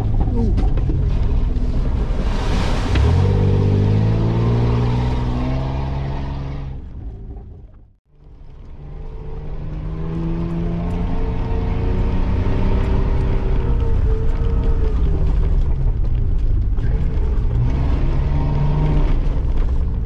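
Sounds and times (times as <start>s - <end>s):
engine and cabin rumble: 0.0s - 20.0s.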